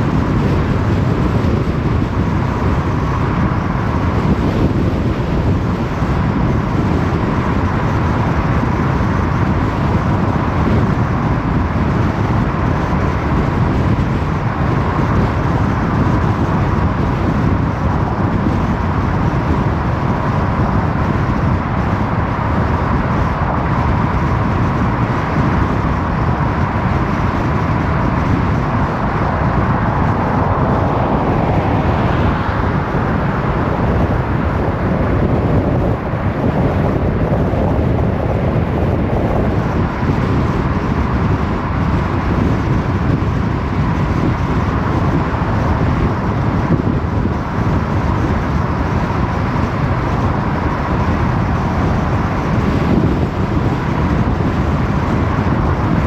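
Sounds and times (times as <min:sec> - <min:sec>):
car driving on road: 0:00.0 - 0:56.0.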